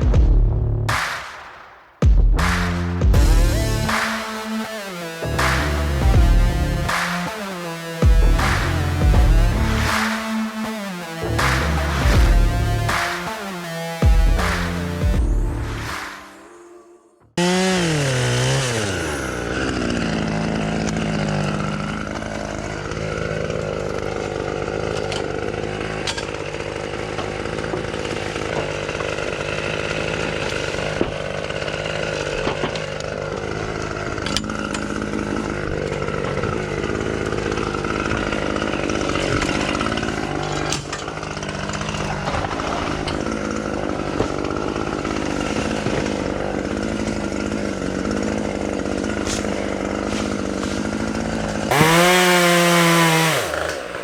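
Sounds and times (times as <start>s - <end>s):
chainsaw running: 2.3s - 16.6s, 17.4s - 54.0s.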